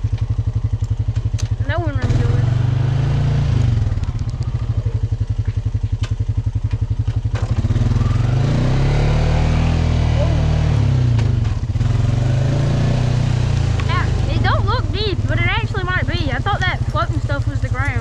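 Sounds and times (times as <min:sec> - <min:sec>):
small off-road vehicle engine: 0:00.0 - 0:18.0.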